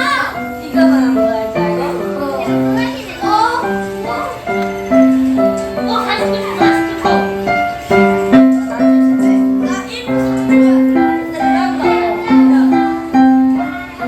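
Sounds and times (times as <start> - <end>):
child playing piano melody: 0.0 - 14.0.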